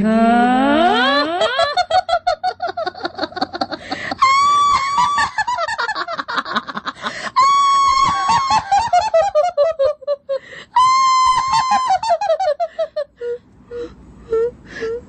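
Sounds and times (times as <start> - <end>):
rapid cackling laughter: 0.9 - 13.1.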